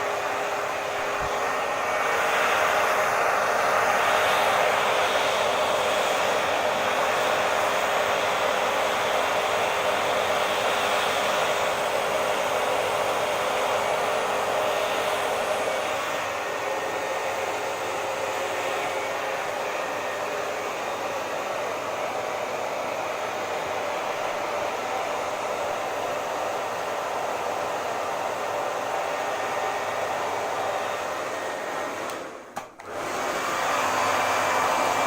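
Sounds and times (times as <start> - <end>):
hair dryer blowing air: 0.0 - 35.0.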